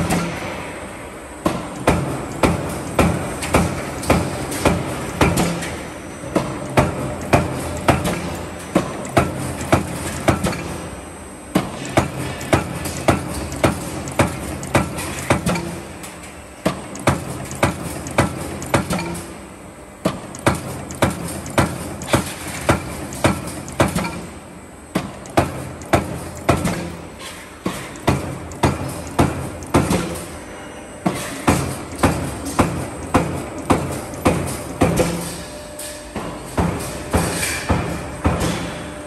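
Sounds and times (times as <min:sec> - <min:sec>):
machine hum: 0:00.2 - 0:36.1
punch press metal clanks: 0:01.7 - 0:10.9, 0:11.6 - 0:30.4, 0:31.0 - 0:38.7.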